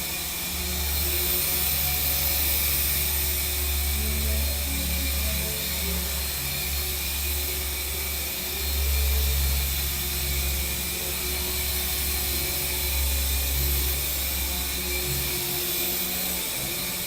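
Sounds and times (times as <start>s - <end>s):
electric helicopter motor and rotor whir: 0.0s - 17.0s.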